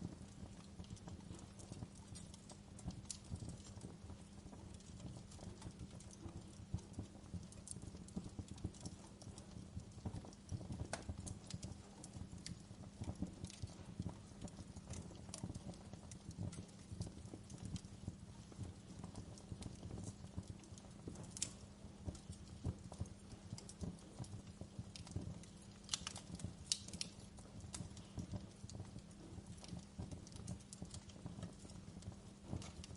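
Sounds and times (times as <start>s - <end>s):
burning logs rumbling: 0.0s - 32.9s
wood fire crackling: 0.0s - 32.9s.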